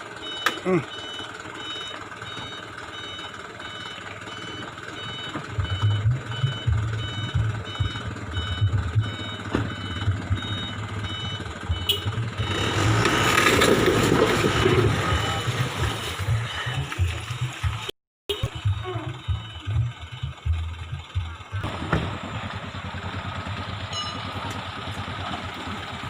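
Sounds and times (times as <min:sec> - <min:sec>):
truck reversing alarm beeping: 0:00.0 - 0:16.9, 0:18.3 - 0:26.0
truck engine rumble: 0:00.0 - 0:26.0.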